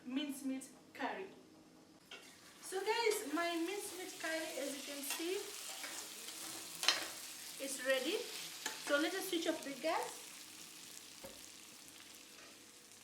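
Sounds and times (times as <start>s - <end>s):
curry sizzling in a pot: 2.0s - 13.0s.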